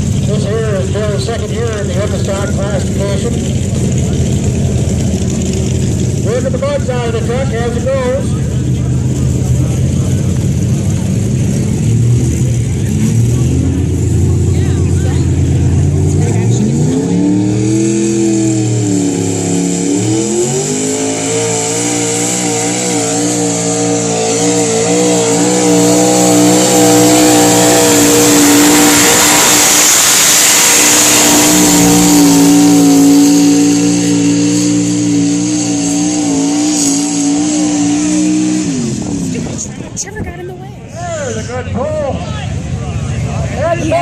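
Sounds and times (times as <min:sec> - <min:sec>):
truck engine at high revs: 0:00.0 - 0:44.0.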